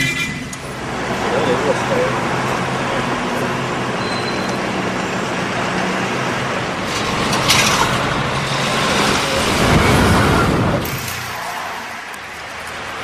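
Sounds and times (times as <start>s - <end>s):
traffic engines running: 0.0s - 13.0s.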